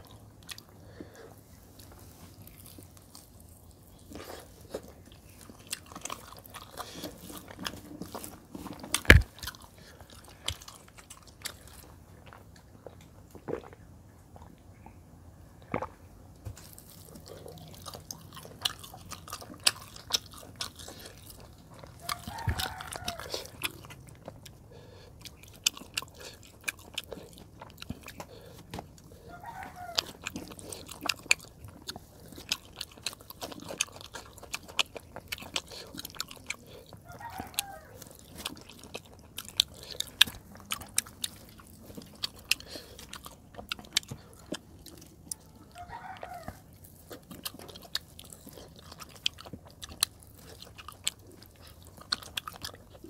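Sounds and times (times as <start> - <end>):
chewing with wet mouth clicks: 0.0 - 15.0, 16.6 - 53.0.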